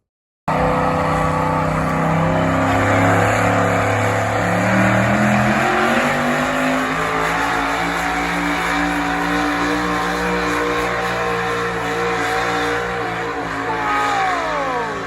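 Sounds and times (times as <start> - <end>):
truck engine revving: 0.5 - 15.0.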